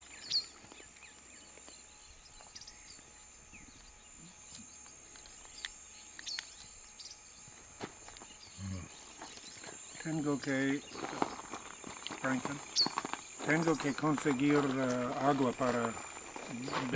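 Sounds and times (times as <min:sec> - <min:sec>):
bird chirps: 0:00.0 - 0:07.5, 0:08.2 - 0:16.9
thin high-pitched whine: 0:00.0 - 0:16.9.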